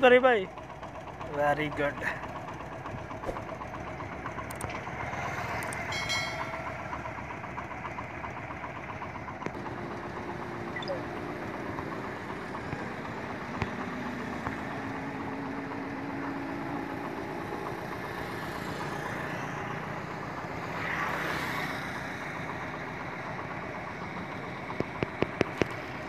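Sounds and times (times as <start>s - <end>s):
engine running: 0.0s - 26.0s
road traffic rumble: 0.0s - 26.0s.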